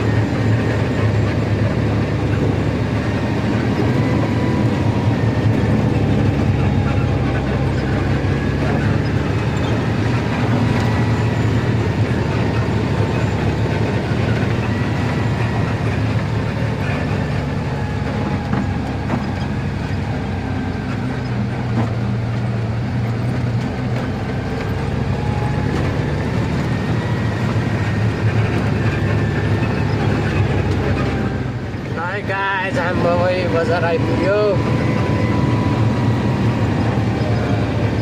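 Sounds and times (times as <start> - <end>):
road noise: 0.0 - 38.0
truck engine drone: 0.0 - 38.0.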